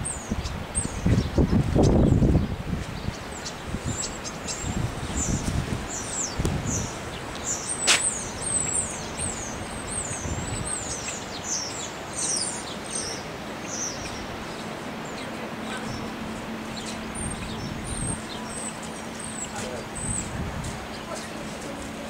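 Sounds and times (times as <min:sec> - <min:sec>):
small birds chirping: 0:00.0 - 0:22.0
wind buffeting microphone: 0:00.0 - 0:22.0.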